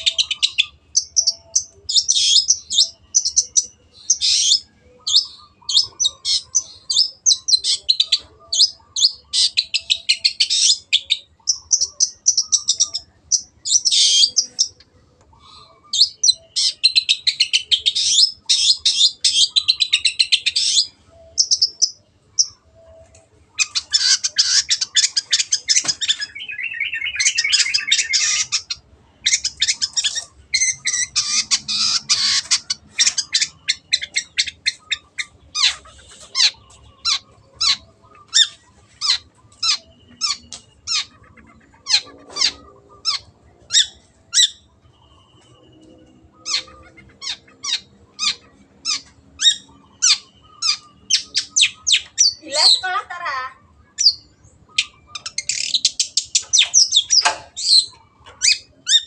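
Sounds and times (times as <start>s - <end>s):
bird harsh chattering song: 0.0s - 59.0s.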